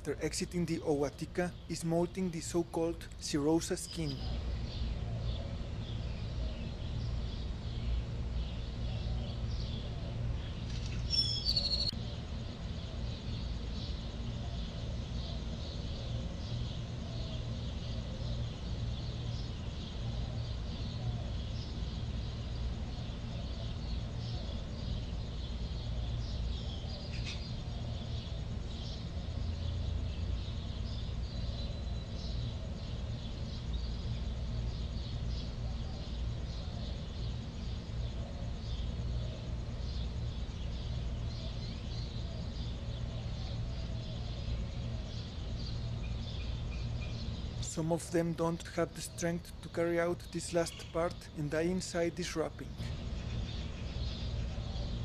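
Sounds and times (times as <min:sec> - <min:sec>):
faint high chirping: 0:00.0 - 0:55.0.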